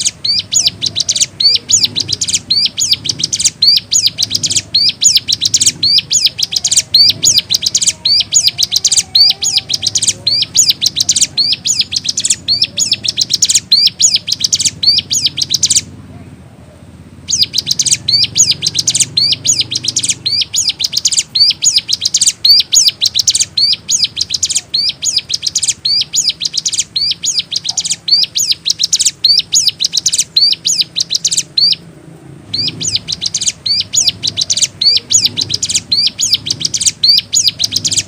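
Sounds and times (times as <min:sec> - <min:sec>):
bird singing rapid high chirps: 0:00.0 - 0:16.0, 0:17.1 - 0:31.9, 0:32.5 - 0:38.0.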